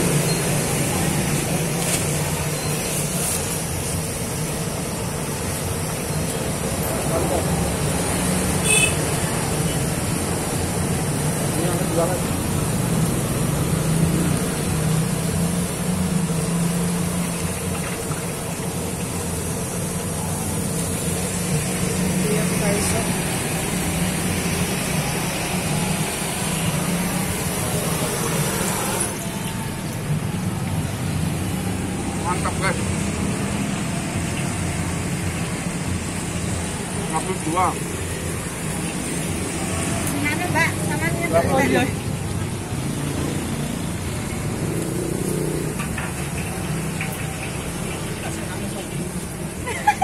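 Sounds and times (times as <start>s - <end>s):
traffic engine hum: 0.0s - 50.0s
vehicles passing close by: 0.0s - 50.0s.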